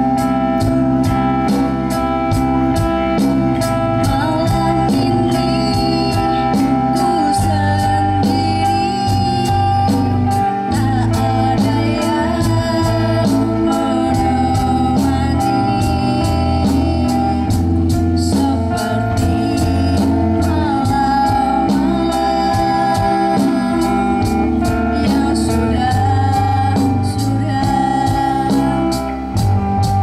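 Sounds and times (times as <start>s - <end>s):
drum kit beat: 0.0s - 30.0s
pop-rock band playing: 0.0s - 30.0s
girl singing: 3.6s - 30.0s.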